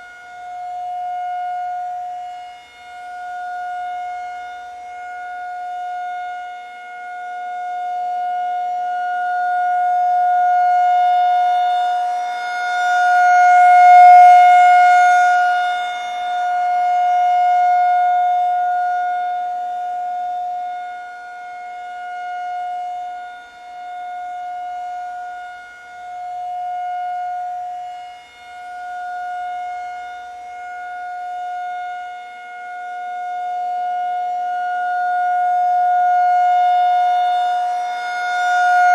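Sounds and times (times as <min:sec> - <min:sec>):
tornado warning siren: 0:00.0 - 0:38.9.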